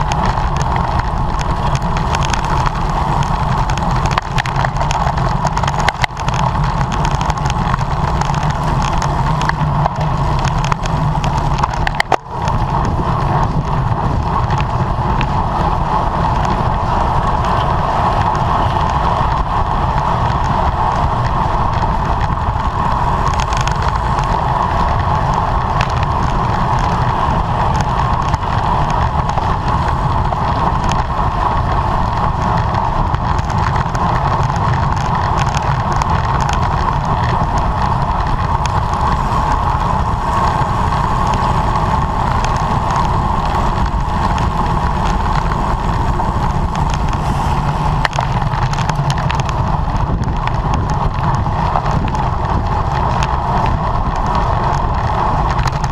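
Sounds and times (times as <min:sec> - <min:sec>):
faint bike ticks: 0:00.0 - 0:55.9
wind on microphone: 0:00.0 - 0:55.9.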